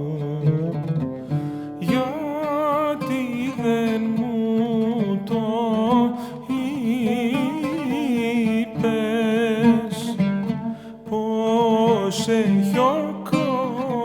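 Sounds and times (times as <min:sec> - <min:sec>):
plucked strings accompaniment: 0:00.0 - 0:14.0.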